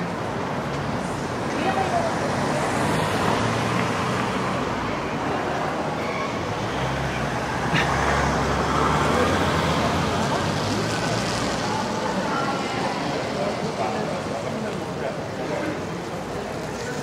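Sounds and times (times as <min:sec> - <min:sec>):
background traffic noise: 0:00.0 - 0:17.0
cars driving slowly past: 0:00.0 - 0:17.0.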